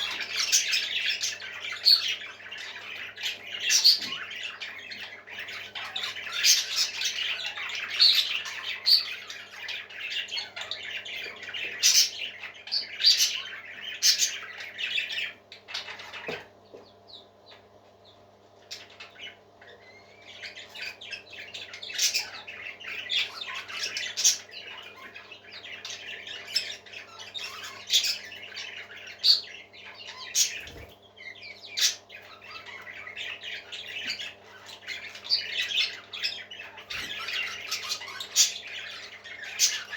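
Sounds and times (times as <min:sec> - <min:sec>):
parrots squawking and chirping: 0:00.0 - 0:16.6, 0:18.5 - 0:39.9
faint steady hum: 0:00.0 - 0:39.9.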